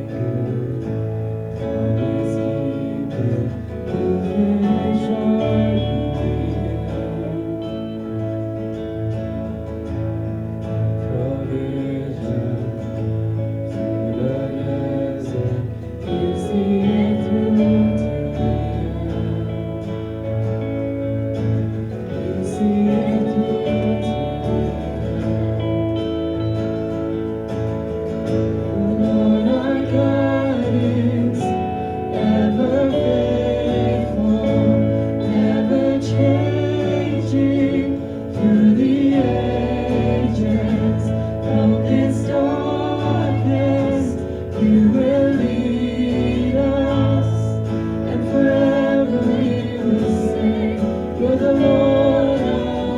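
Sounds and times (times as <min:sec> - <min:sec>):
group of voices singing: 0:00.0 - 0:52.9
worship song on guitar: 0:00.0 - 0:52.9.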